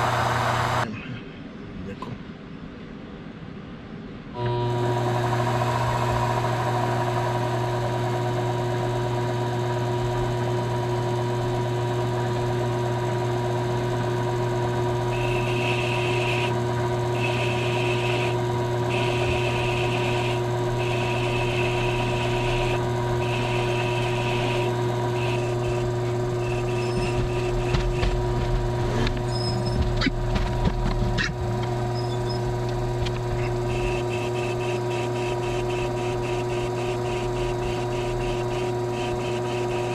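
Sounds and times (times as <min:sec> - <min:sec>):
lathe humming: 0:00.0 - 0:00.8, 0:04.4 - 0:39.9.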